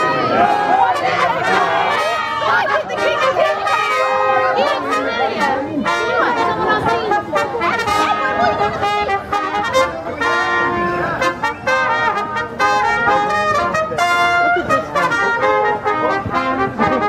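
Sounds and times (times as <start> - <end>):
stately brass music with trumpets: 0.0 - 17.0.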